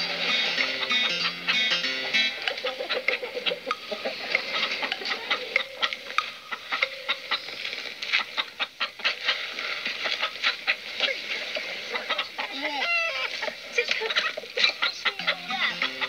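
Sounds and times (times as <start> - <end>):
chickens pecking at feed: 0.0 - 16.0.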